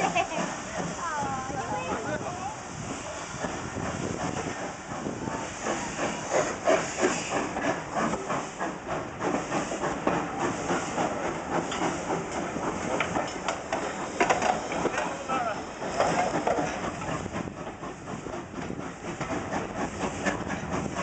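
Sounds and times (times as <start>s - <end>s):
steam hissing: 0.0s - 21.0s
steam locomotive beats: 0.0s - 21.0s.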